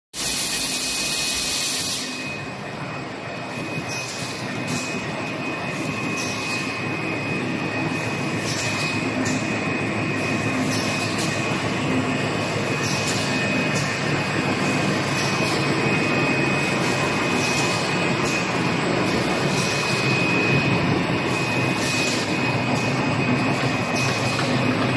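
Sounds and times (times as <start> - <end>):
machine running with whine: 0.2 - 24.9.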